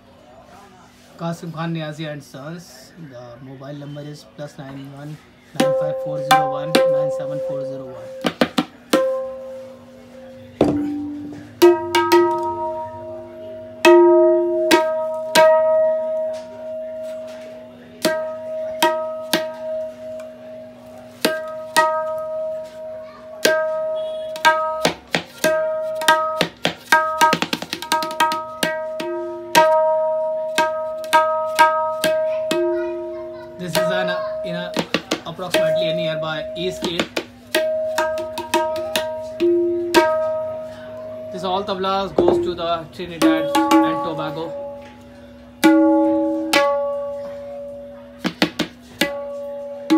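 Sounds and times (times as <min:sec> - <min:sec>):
hand drum strokes: 0:05.5 - 0:49.9.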